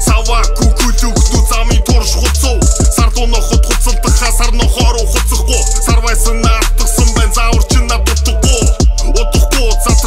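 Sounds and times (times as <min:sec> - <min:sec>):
deep bass kicks: 0:00.0 - 0:10.0
hip hop music: 0:00.0 - 0:10.0.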